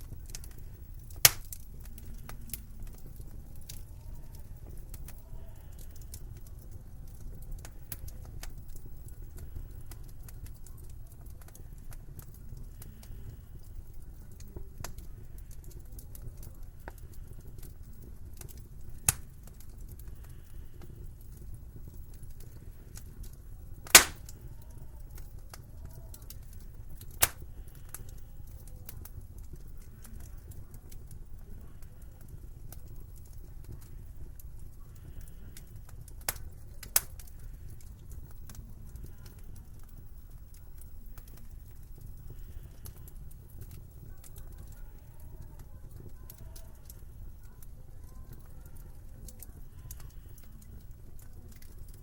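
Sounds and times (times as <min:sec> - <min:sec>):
sharp fire pops: 0:00.0 - 0:44.8
wood fire crackling: 0:00.0 - 0:52.0.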